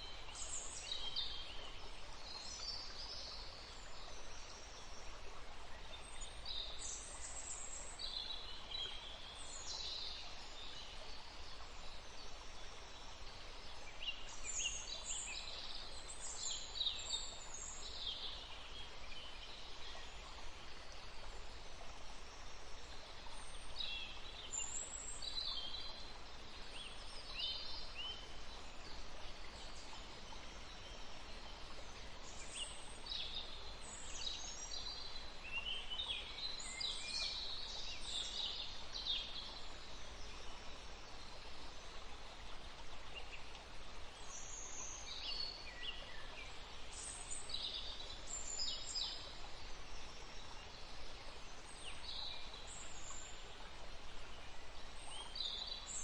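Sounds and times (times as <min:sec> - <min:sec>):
low background hiss: 0:00.0 - 0:56.0
small songbirds twittering: 0:00.0 - 0:56.0.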